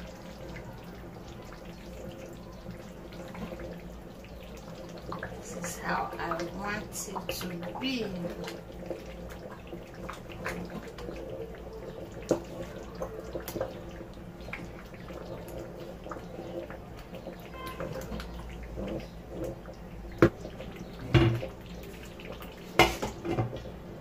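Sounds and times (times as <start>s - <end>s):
stew bubbling in a pot: 0.0s - 24.0s.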